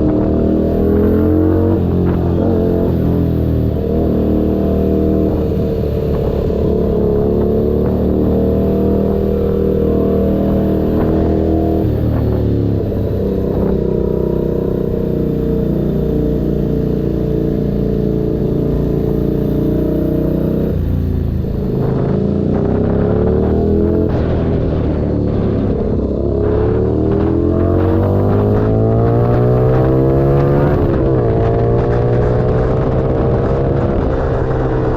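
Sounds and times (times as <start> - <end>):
motorcycle engine running and revving: 0.0 - 34.9.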